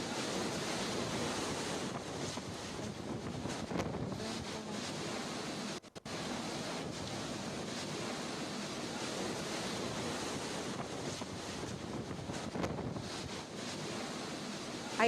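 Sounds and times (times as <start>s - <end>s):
strong winds buffeting microphone: 0.0s - 15.0s.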